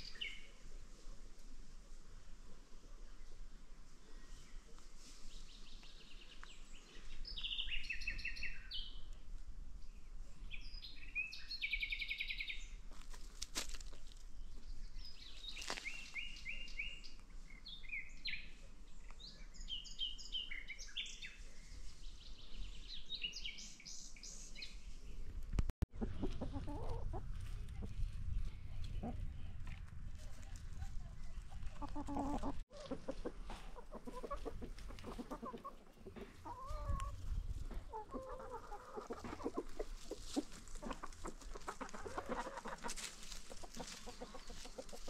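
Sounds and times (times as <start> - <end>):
songbirds trilling and chirping: 0.0 - 45.0.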